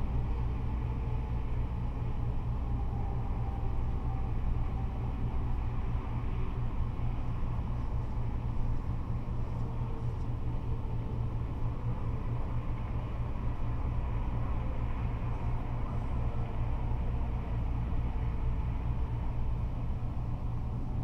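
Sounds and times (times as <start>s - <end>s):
freeway traffic rumble: 0.0s - 21.0s.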